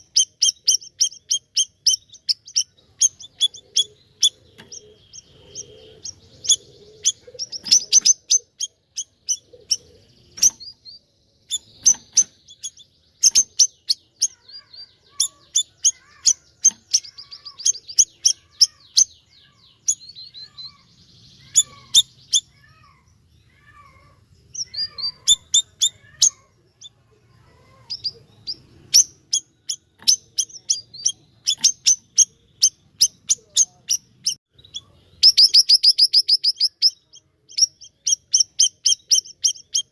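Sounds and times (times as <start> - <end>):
faint lower twittering: 0.0 - 39.9
songbird singing high notes: 0.0 - 39.9.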